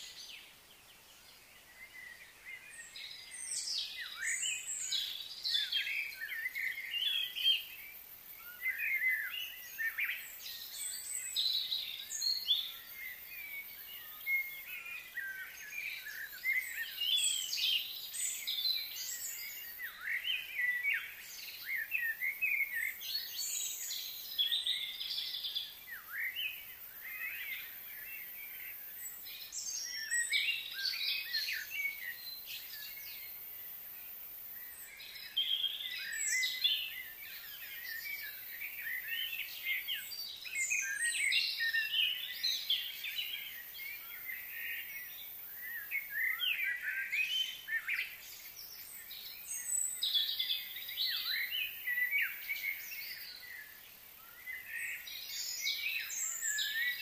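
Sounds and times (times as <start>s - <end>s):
faint outdoor background: 0.0s - 57.0s.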